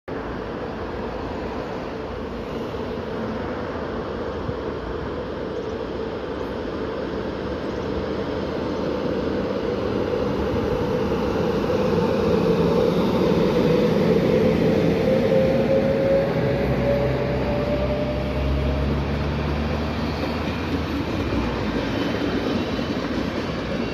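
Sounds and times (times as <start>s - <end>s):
locomotive whine: 0.1s - 23.9s
train wheel and rail noise: 0.1s - 23.9s.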